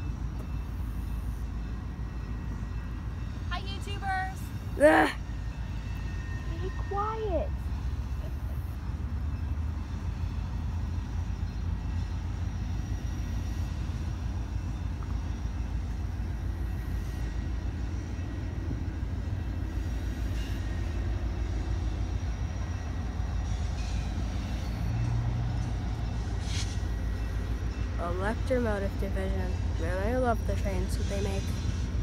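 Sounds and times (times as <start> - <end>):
locomotive rumbling: 0.0 - 32.0.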